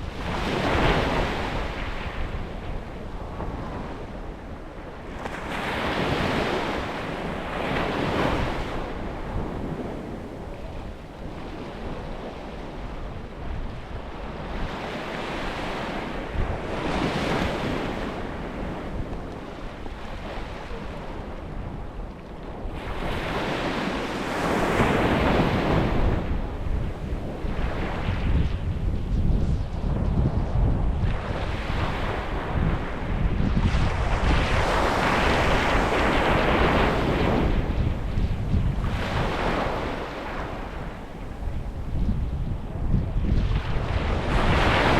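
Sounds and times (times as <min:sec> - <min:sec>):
sea waves breaking on beach: 0:00.0 - 0:21.9, 0:22.6 - 0:28.7, 0:31.1 - 0:44.9.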